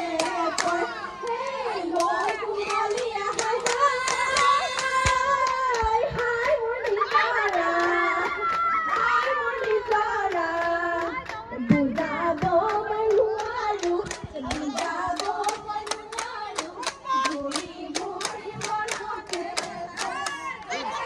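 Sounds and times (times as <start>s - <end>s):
rhythmic hand clapping: 0.0s - 20.9s
women singing: 0.0s - 21.0s.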